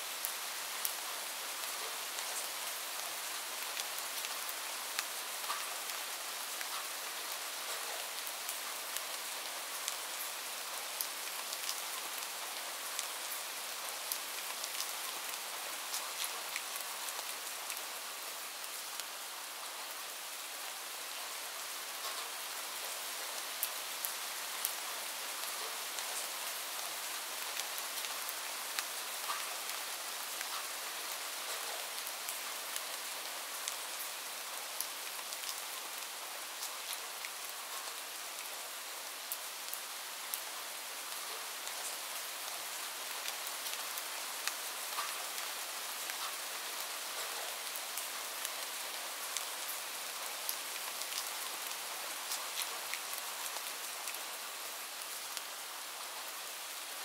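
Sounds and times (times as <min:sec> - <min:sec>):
falling rain hiss: 0:00.0 - 0:57.0.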